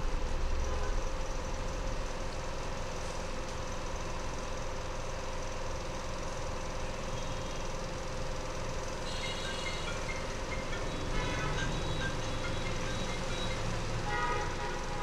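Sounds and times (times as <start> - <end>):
steady engine-like hum: 0.0 - 15.0.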